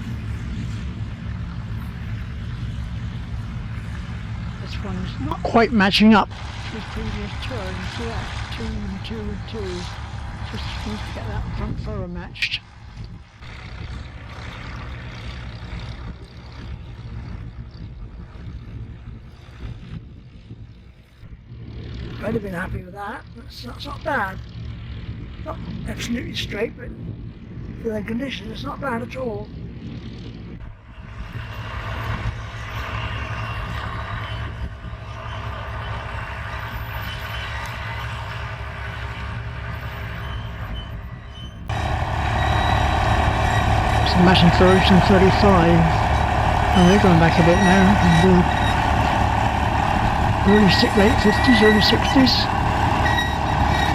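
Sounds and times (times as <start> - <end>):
tractor engine running under load: 0.0 - 22.1, 29.7 - 53.9
outdoor noise: 0.0 - 27.9, 28.8 - 53.9.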